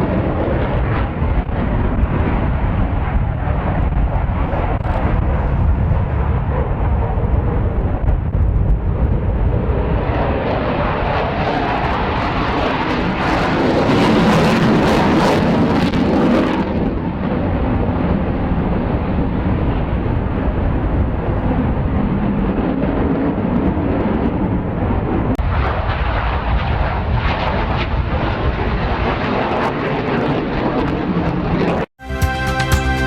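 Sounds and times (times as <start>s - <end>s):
airplane engine noise: 0.0s - 31.9s.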